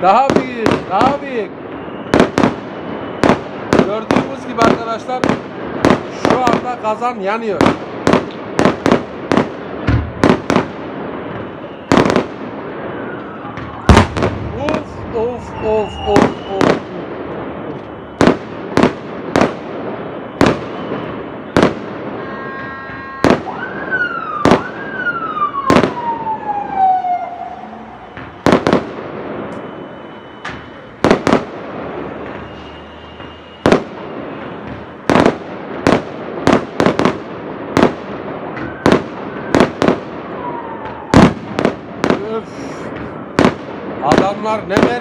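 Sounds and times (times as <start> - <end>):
fireworks bursting in bangs: 0.0 - 45.0
fireworks crackle: 0.0 - 45.0
whistling firework tone: 0.4 - 5.4, 10.2 - 37.1, 37.8 - 43.5.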